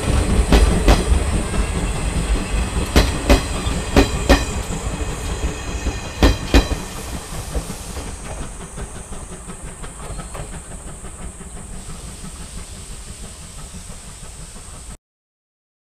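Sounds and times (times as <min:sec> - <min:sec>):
train running noise: 0:00.0 - 0:15.0
train wheels clacking over rail joint: 0:00.0 - 0:15.0.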